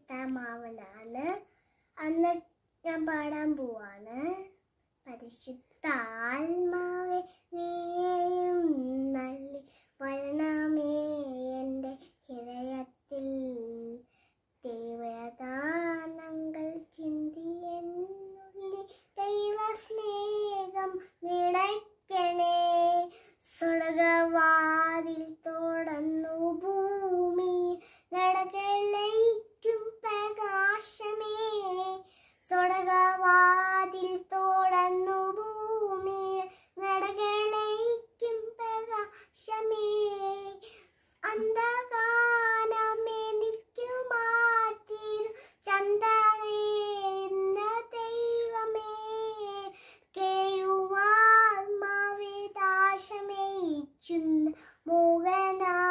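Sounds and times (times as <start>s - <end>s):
child singing: 0.0s - 55.9s.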